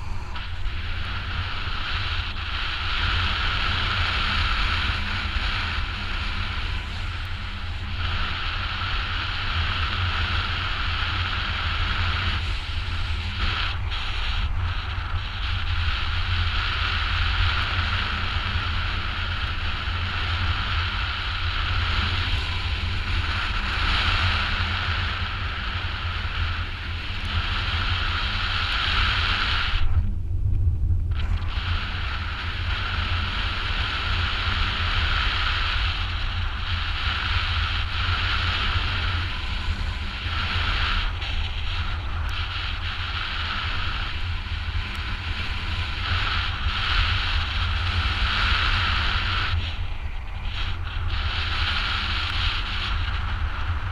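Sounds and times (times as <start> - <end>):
rushing air hiss: 0.0 - 30.1, 31.1 - 53.9.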